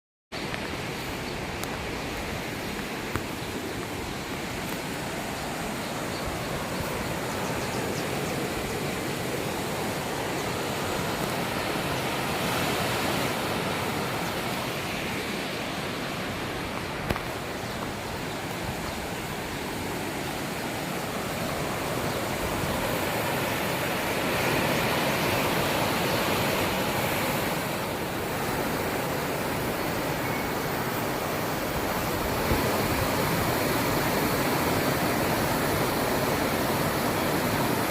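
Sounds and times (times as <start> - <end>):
river rushing roar: 0.4 - 37.9.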